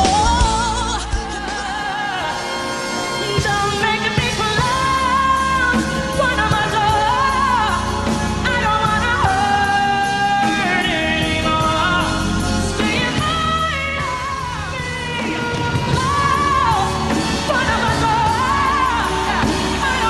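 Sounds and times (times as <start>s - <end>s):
band and orchestra accompaniment: 0.0s - 20.0s
woman singing a pop song: 0.0s - 20.0s.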